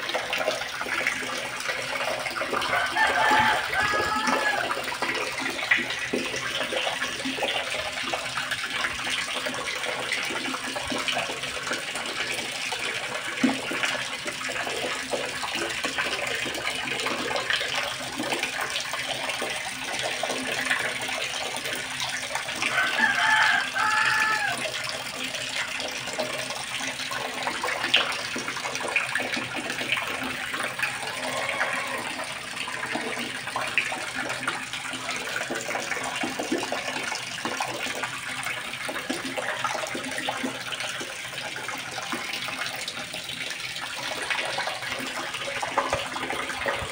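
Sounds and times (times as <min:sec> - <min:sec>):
water rushing into pond: 0:00.0 - 0:46.9.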